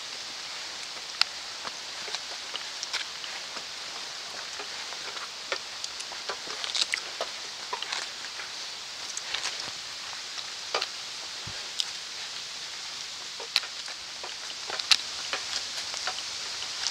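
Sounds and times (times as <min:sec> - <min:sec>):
background hiss: 0:00.0 - 0:16.9.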